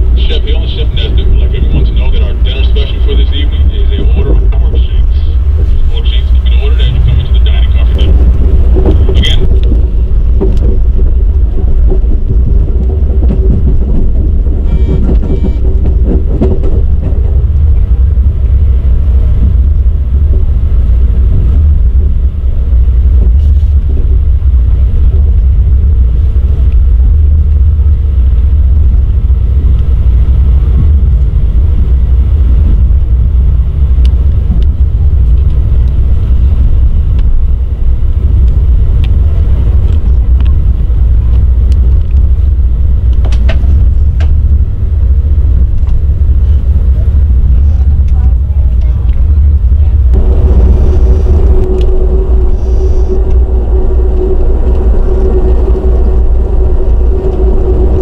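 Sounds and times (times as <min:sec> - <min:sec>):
faint hum: 0:00.0 - 0:58.0
train wheels rumbling on track: 0:00.0 - 0:58.0.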